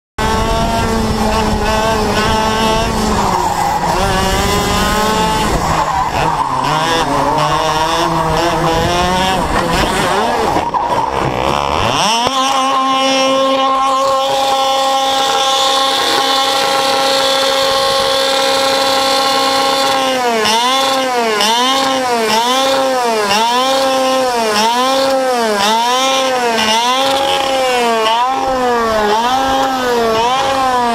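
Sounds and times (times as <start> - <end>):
go-kart engine revving high: 0.2 - 30.9.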